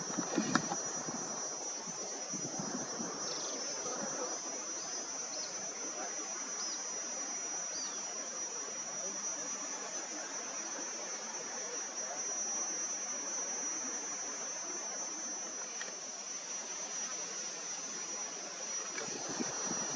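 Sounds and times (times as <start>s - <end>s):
high-pitched insect drone: 0.0s - 19.9s
soft outdoor hiss: 0.0s - 19.9s.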